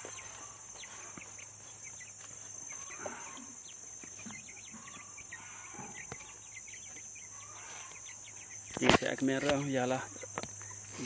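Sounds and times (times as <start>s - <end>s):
chickens clucking and calling: 0.0s - 11.0s.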